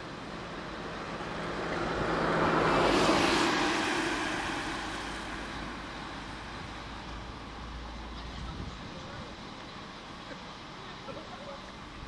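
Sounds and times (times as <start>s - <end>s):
road vehicle passing by: 0.0s - 10.7s.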